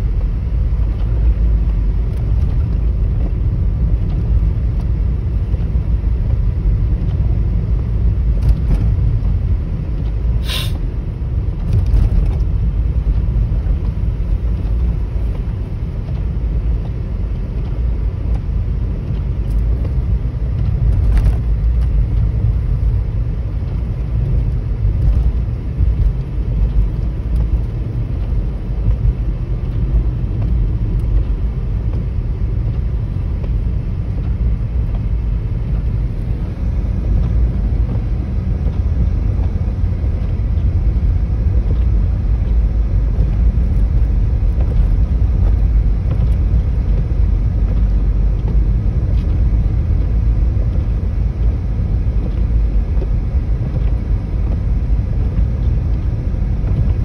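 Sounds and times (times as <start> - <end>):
car road and wind rumble: 0.0 - 57.0.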